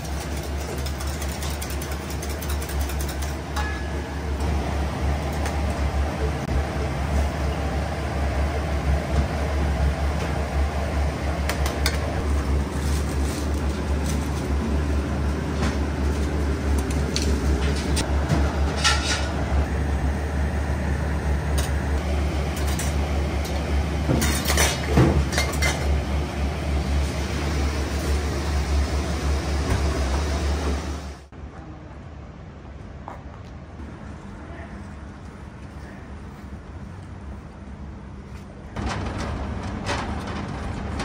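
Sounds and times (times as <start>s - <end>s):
low hum of kitchen machinery: 0.0s - 41.0s.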